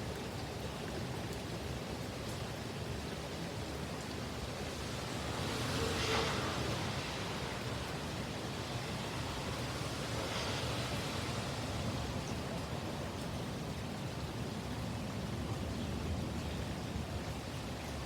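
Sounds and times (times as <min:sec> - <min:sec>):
low rumble of strong wind: 0:00.0 - 0:18.0
heavy rain pouring: 0:02.6 - 0:17.3.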